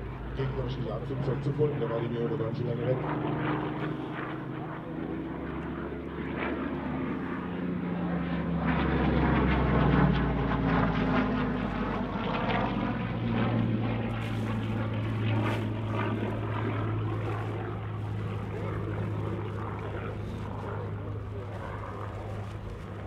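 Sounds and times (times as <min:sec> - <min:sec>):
propeller aircraft engine in flight: 0:00.0 - 0:23.0.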